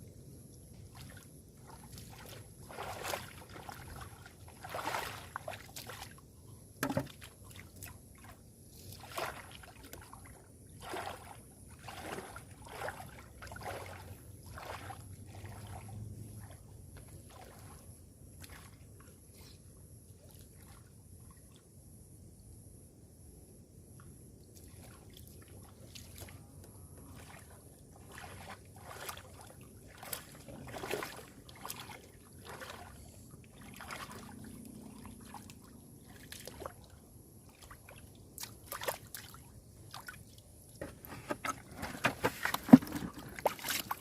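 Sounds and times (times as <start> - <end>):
water sloshing and splashing: 0.6 - 19.3, 20.1 - 21.8, 24.5 - 44.0.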